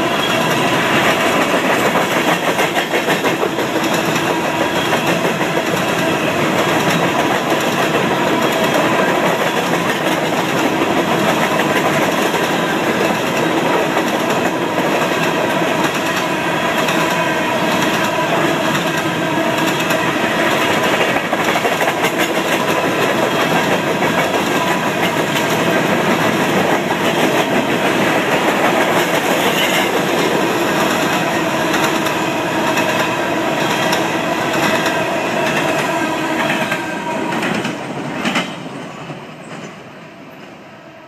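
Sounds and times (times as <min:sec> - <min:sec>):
train wheels clattering on rails: 0:00.0 - 0:40.6.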